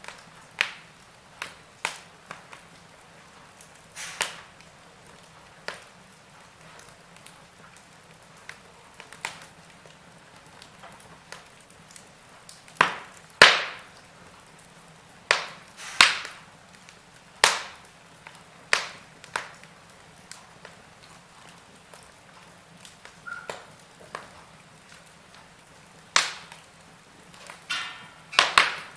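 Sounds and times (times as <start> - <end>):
faint steady hiss: 0.0 - 28.9
wood fire crackling: 0.0 - 28.9.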